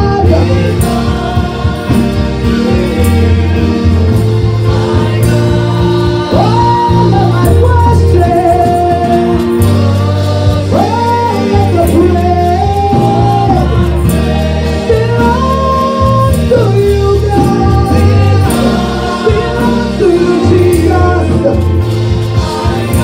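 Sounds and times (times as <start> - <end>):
bass line: 0.0 - 23.0
instrumental accompaniment: 0.0 - 23.0
percussion strikes: 0.0 - 23.0
voices singing: 0.2 - 23.0.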